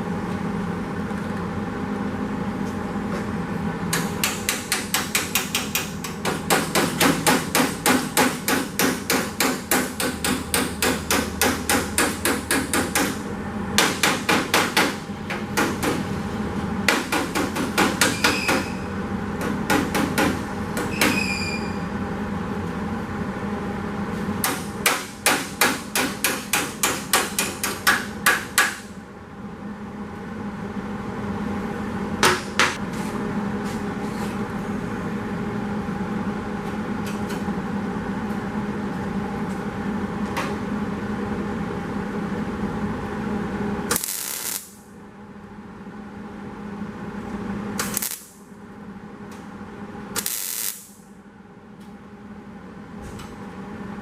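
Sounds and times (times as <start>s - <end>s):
steady shop hum: 0.0s - 54.0s.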